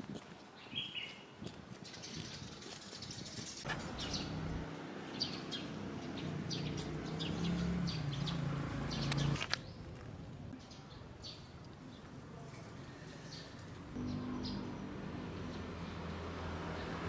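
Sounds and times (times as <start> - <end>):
birds chirping: 0.6 - 12.1, 13.1 - 17.0.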